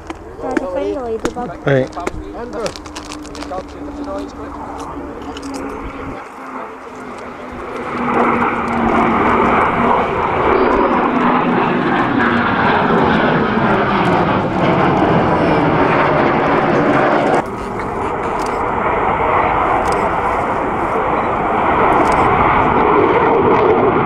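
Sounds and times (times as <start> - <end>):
fighter jet passing: 0.0 - 24.0.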